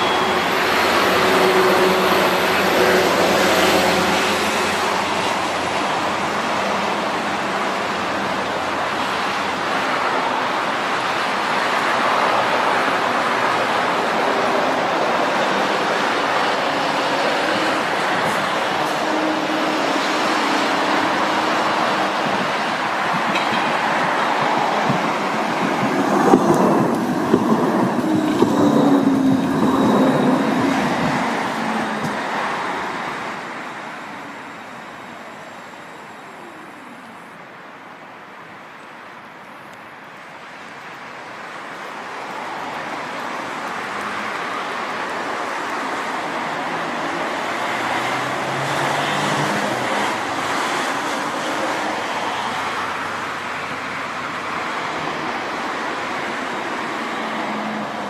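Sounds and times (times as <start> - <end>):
street traffic noise: 0.0 - 58.0
tram passing: 0.0 - 58.0.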